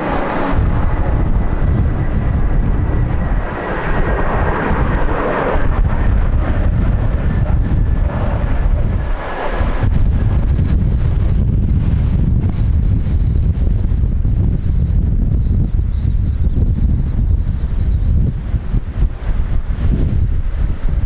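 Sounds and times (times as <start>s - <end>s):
jet engines rumbling: 0.0s - 21.0s
wind buffeting microphone: 0.0s - 21.0s.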